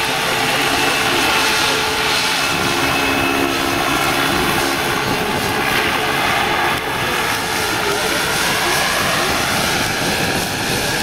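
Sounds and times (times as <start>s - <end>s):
model helicopter rotor noise: 0.0s - 11.0s.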